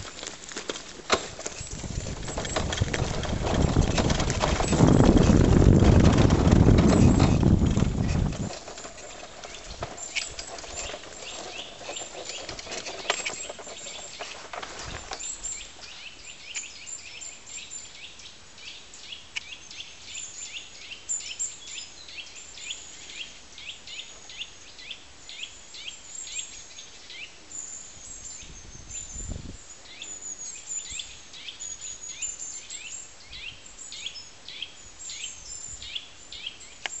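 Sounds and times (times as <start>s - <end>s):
birds singing and calling: 0.0s - 37.0s.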